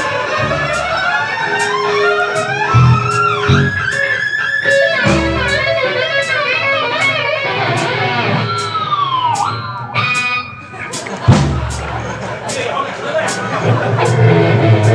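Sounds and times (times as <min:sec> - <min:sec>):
falling pitch slide: 0:00.0 - 0:12.1
electric guitar: 0:00.0 - 0:12.6, 0:13.2 - 0:14.9
jazz-rock fusion band playing: 0:00.0 - 0:14.9.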